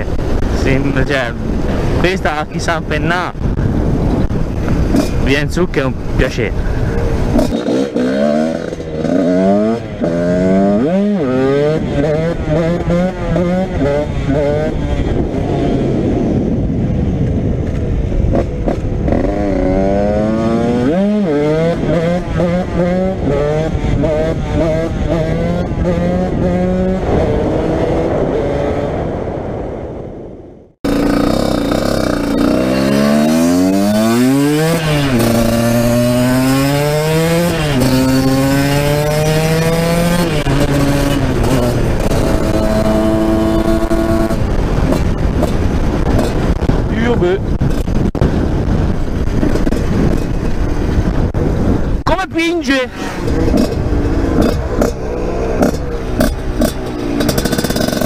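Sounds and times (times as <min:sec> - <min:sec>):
motorcycle engine revving: 0:00.0 - 0:29.5, 0:30.7 - 0:52.1, 0:52.8 - 0:58.0.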